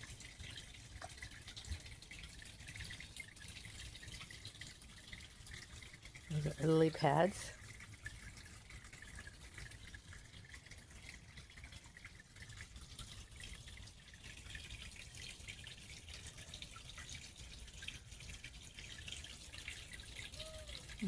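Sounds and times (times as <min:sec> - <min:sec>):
faint patter of drips: 0:00.0 - 0:21.0
small waterfall splashing: 0:00.0 - 0:21.0.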